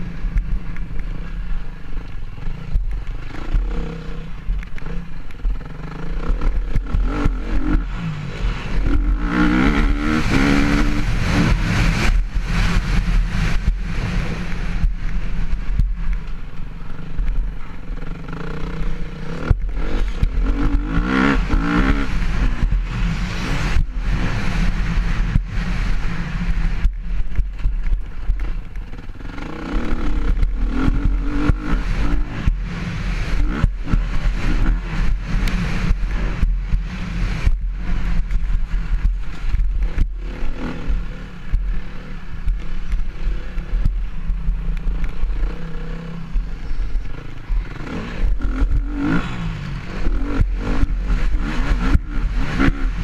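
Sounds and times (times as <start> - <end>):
motocross bike engine revving: 0.0 - 53.0
wind rumble on microphone: 0.0 - 53.0.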